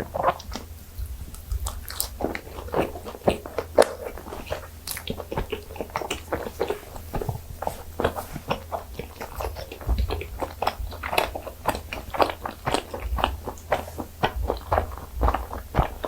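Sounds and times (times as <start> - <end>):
person chewing food: 0.0 - 16.0
wet mouth smacks: 0.0 - 16.0.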